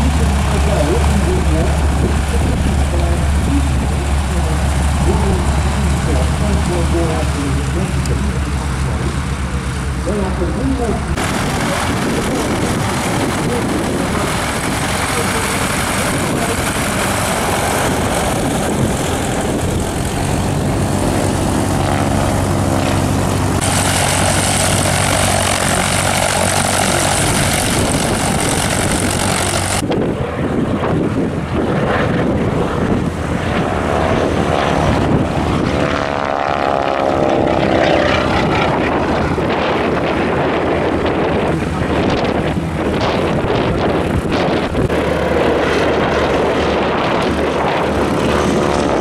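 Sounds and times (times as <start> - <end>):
biplane engines flying overhead: 0.0 - 49.0
propeller plane engine on ground: 0.0 - 49.0.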